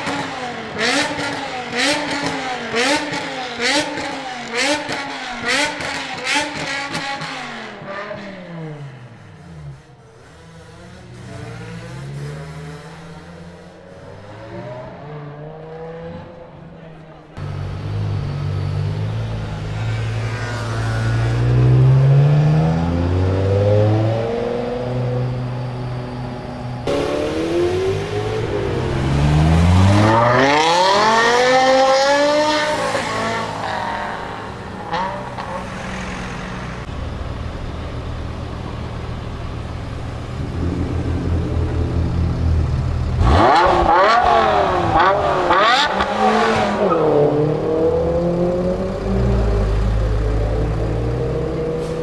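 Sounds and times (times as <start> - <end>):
engine revving: 0.0 - 16.4, 17.4 - 37.3, 40.4 - 52.0.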